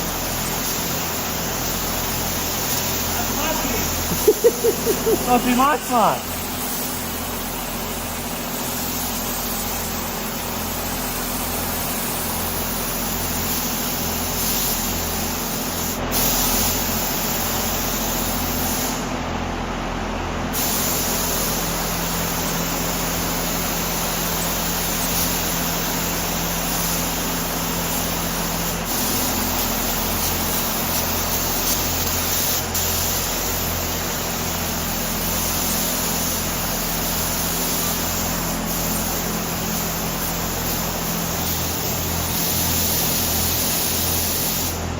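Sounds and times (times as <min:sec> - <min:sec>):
paint spray gun hissing: 0:00.0 - 0:19.1, 0:20.6 - 0:44.9.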